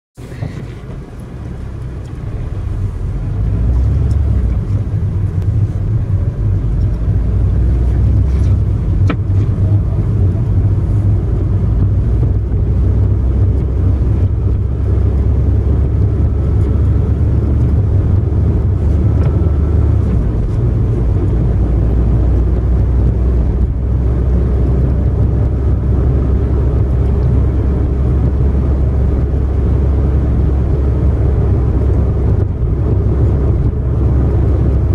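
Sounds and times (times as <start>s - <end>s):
car tyres and engine rumble: 0.2s - 34.9s.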